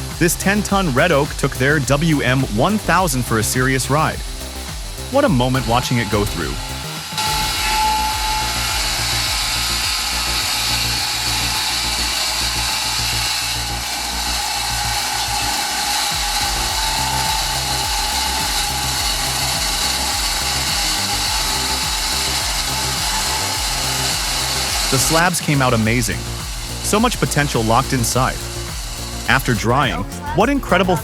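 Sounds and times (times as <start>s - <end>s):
band sawmill cutting log: 0.0s - 30.2s
background music with bass line: 0.0s - 31.0s.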